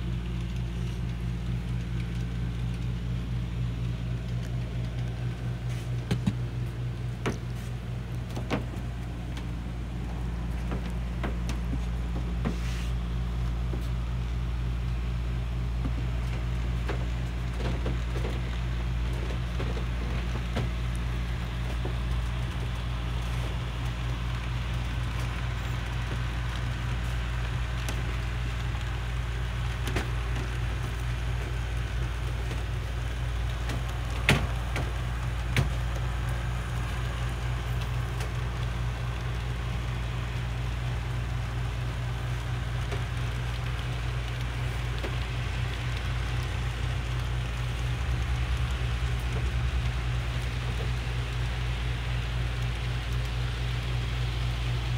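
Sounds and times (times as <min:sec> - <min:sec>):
model train rumbling on track: 0:00.0 - 0:54.9.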